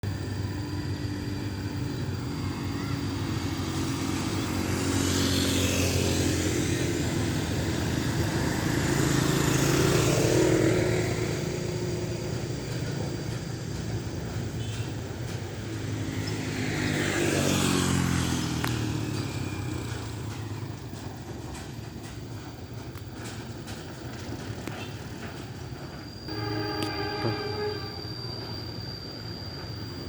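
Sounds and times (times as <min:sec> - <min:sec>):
vehicles passing: 0:00.0 - 0:25.5, 0:26.1 - 0:30.0
steady engine drone: 0:00.0 - 0:30.0.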